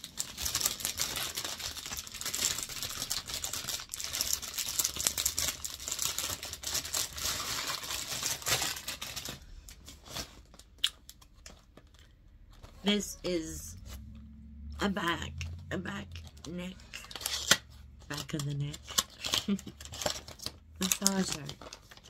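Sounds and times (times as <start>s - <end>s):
packaging crinkling and tearing: 0.0s - 12.7s, 16.1s - 22.0s.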